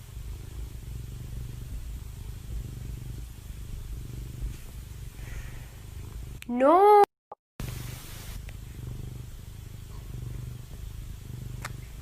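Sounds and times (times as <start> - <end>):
cat purring: 0.0 - 6.5, 7.6 - 12.0.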